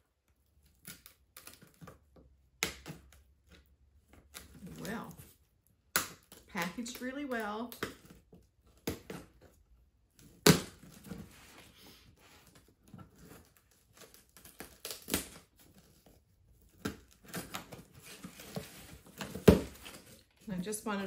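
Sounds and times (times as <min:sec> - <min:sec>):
tape and cardboard crackling: 0:00.1 - 0:21.0.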